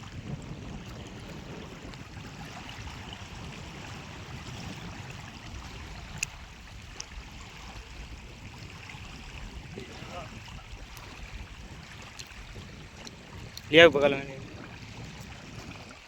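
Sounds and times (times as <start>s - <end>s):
flowing water rushing: 0.0s - 16.0s
wind buffeting microphone: 0.0s - 16.0s.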